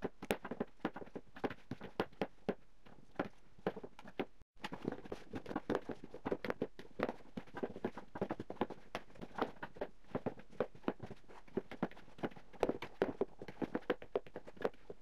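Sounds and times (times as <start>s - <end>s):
hands kneading dough: 0.0s - 15.0s.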